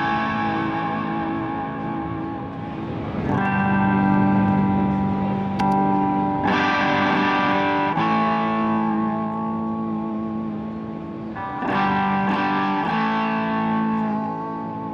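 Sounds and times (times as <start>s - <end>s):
overdriven electric guitar chords: 0.0s - 14.9s.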